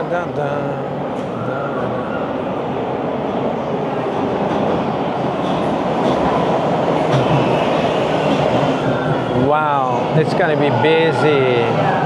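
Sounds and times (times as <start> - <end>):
subway train wheels rumbling: 0.0 - 12.0.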